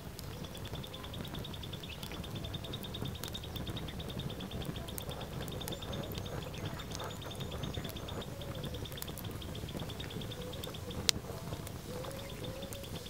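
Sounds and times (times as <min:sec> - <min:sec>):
high pulsing chirping: 0:00.0 - 0:13.0
low rumble of flame: 0:00.0 - 0:13.0
wood fire crackling: 0:00.0 - 0:13.0.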